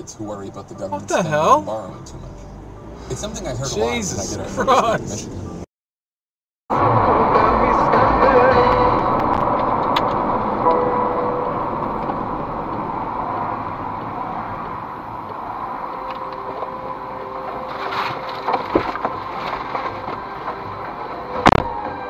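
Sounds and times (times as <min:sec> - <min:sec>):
road and tyre noise inside car: 0:00.0 - 0:05.7, 0:06.7 - 0:22.0.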